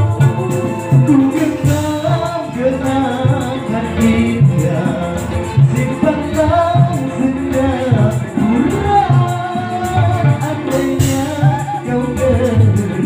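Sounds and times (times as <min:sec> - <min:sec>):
live band playing: 0:00.0 - 0:13.0
person singing: 0:00.0 - 0:13.0
steady percussion beat: 0:00.0 - 0:13.0.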